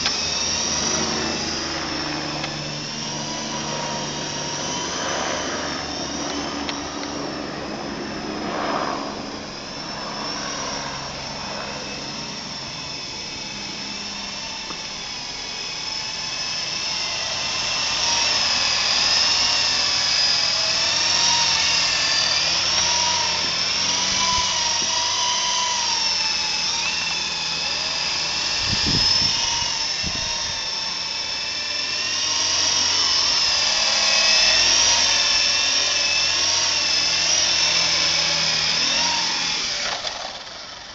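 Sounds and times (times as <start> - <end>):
toy helicopter motor whine: 0.0 - 40.9.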